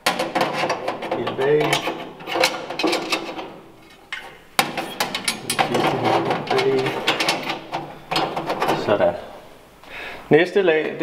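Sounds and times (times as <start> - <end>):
metal plates clattering and scraping: 0.0 - 9.4.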